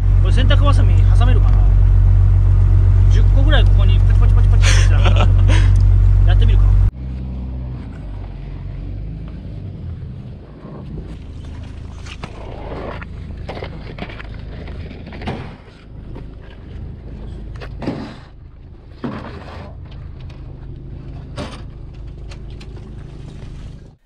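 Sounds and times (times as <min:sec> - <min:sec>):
boat engine idling: 0:00.0 - 0:24.0.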